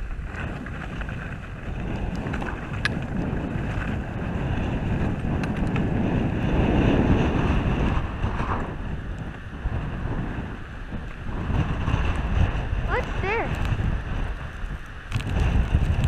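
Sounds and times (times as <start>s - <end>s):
skis scraping over snow: 0.0s - 16.0s
wind buffeting microphone: 0.0s - 16.0s.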